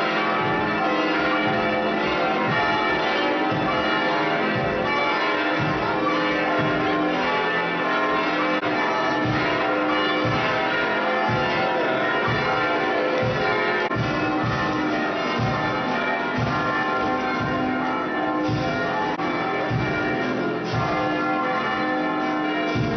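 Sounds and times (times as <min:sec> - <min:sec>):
church bells pealing: 0:00.0 - 0:22.9.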